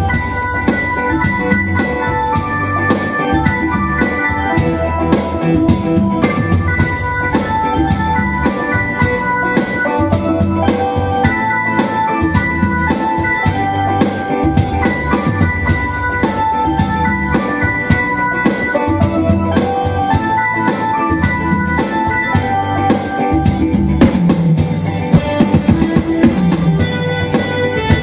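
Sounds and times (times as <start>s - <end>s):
keyboard melody: 0.0s - 28.0s
regular drum beat: 0.0s - 28.0s.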